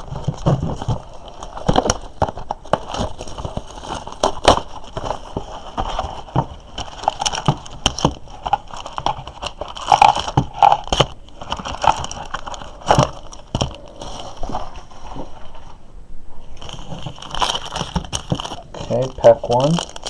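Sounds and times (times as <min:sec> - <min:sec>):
packaging crinkling: 0:00.0 - 0:15.7, 0:16.6 - 0:20.0.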